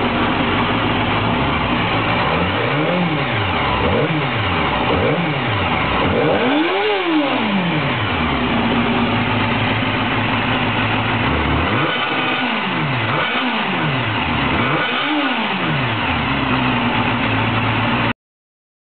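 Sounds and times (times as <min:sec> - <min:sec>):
motorcycle engine idling and revving: 0:00.0 - 0:18.2.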